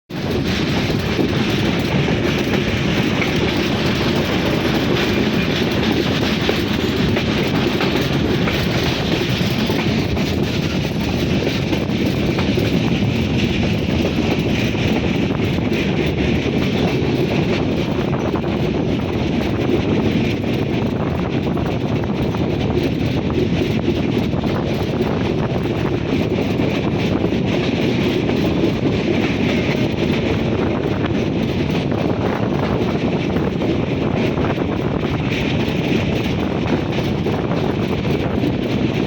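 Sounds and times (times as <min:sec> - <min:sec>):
train wheels on rails: 0:00.1 - 0:39.0.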